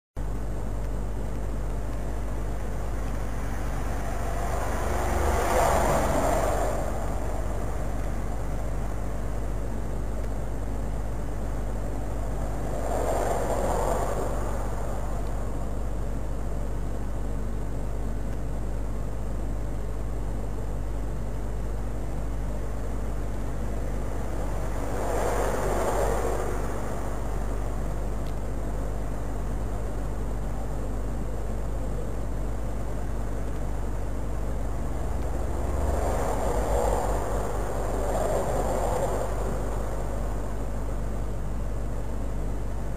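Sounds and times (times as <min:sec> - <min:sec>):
rushing noise: 0:00.2 - 0:19.5, 0:21.9 - 0:42.9
low hum and hiss: 0:00.2 - 0:42.9.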